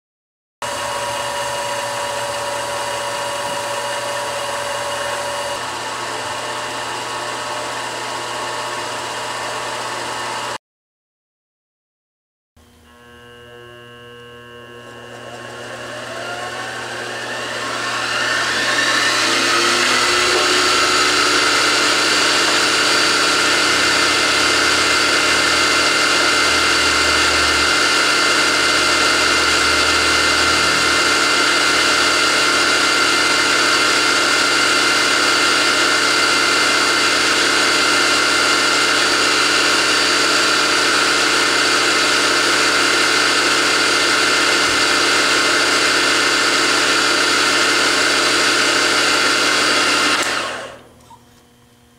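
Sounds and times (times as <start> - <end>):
milling machine motor whine: 0.6 - 10.6, 12.6 - 51.9.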